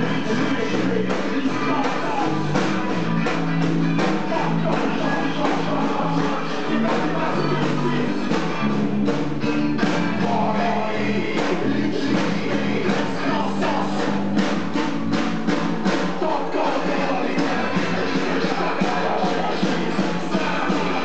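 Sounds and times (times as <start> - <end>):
person singing: 0.0 - 8.8, 9.8 - 14.3, 16.0 - 21.0
live rock band playing: 0.0 - 21.0.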